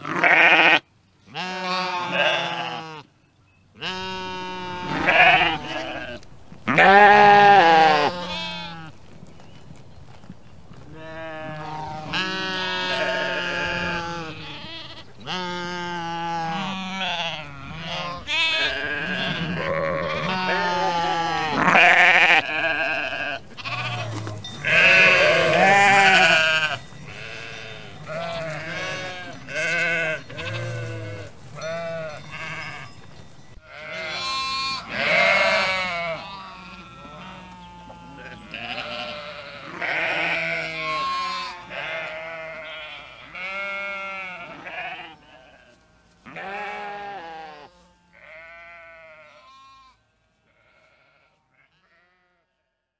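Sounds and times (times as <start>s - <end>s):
sheep bleating: 0.0s - 3.1s, 3.8s - 9.0s, 10.9s - 33.0s, 33.6s - 52.6s.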